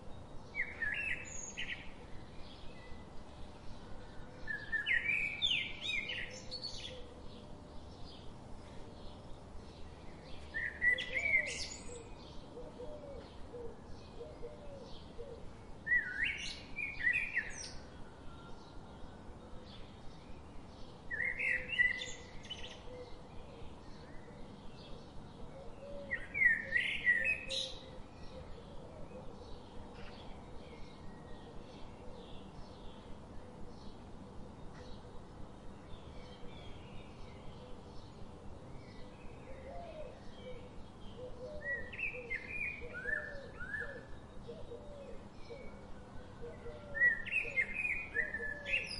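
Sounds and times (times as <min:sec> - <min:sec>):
faint outdoor background noise: 0:00.0 - 0:48.9
low repeated bird calls: 0:00.0 - 0:48.9.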